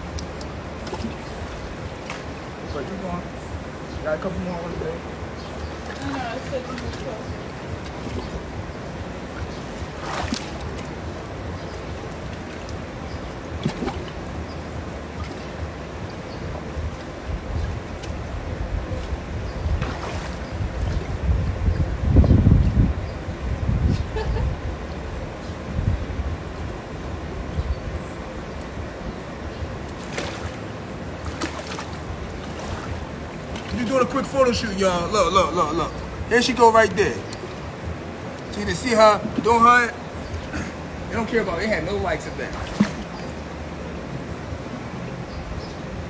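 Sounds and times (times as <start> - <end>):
pool water splashing: 0.0 - 22.0, 22.6 - 46.0
steady background rush: 0.0 - 46.0.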